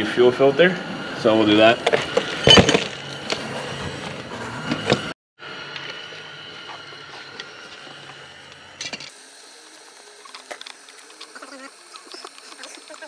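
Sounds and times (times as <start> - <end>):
shop hum: 0.0 - 13.0.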